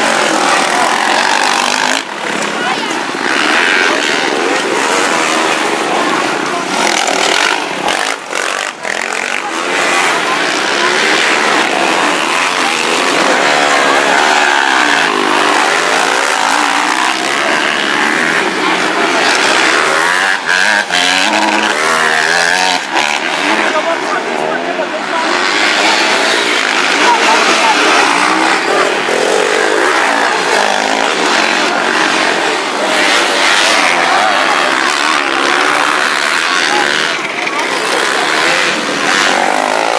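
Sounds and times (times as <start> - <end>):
motocross motorcycle engines revving: 0.0 - 39.9.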